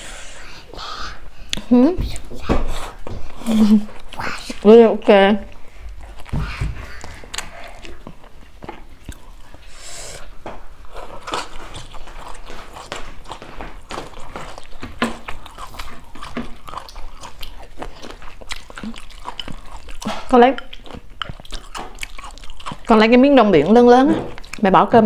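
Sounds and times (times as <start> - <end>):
person chewing food: 0.0 - 4.7, 5.5 - 23.0, 23.6 - 24.7.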